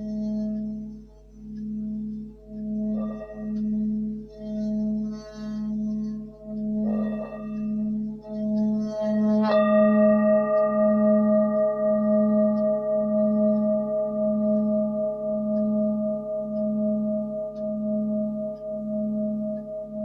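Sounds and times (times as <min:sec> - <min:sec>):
singing bowls ringing: 0:01.6 - 0:20.0
singing bowl struck: 0:02.6 - 0:20.0.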